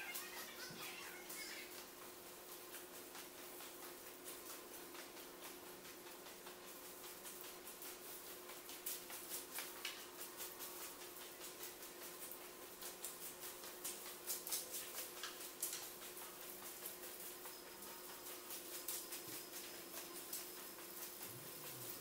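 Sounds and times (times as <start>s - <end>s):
faint crackling and ticks: 0.0s - 22.0s.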